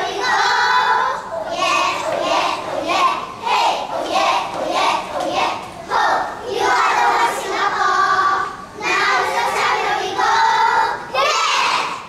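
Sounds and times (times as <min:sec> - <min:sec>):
children singing in unison: 0:00.0 - 0:12.0.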